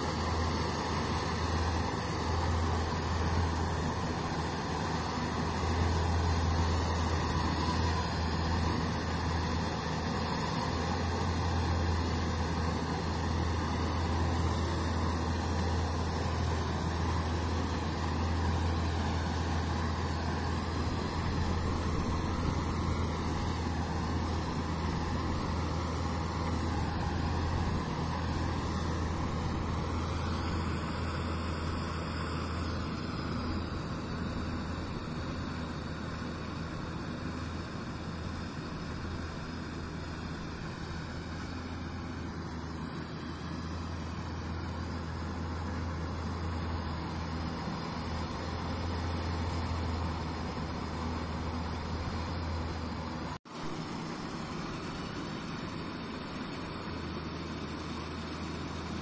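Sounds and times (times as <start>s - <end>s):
tractor and harvester drone: 0.0s - 59.0s.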